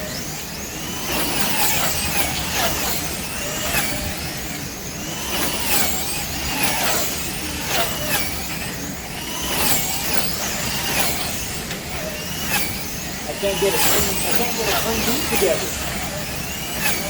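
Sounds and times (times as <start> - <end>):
slot car motors whining: 0.0 - 17.0.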